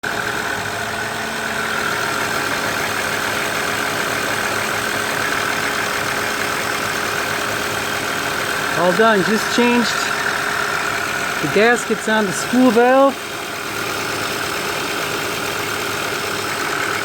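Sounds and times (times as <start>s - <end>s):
car engine idling with whine: 0.0s - 17.0s.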